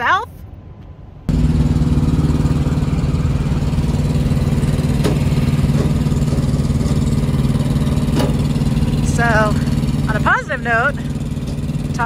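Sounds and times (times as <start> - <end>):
diesel truck engine idling: 1.3 - 12.0.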